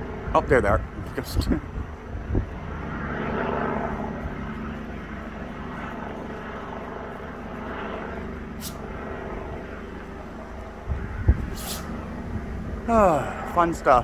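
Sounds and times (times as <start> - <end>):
helicopter rotor drone: 0.0 - 14.0.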